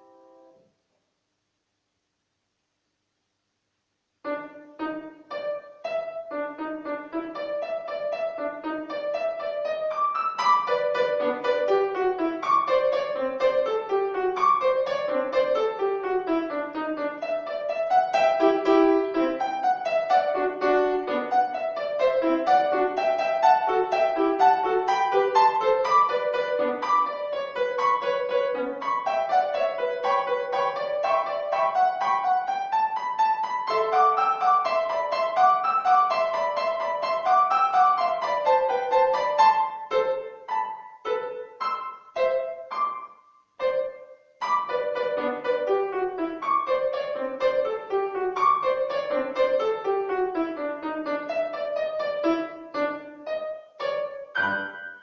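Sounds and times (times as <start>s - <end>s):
solo piano piece: 0.0s - 0.9s, 4.1s - 55.0s.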